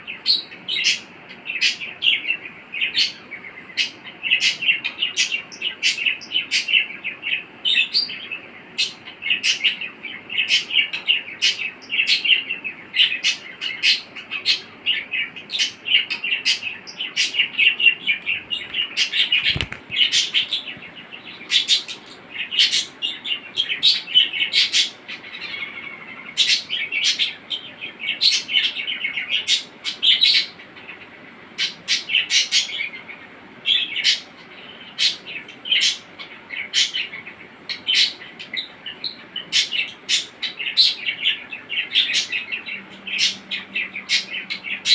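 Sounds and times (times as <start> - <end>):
budgerigar warbling and chattering: 0.0 - 44.9.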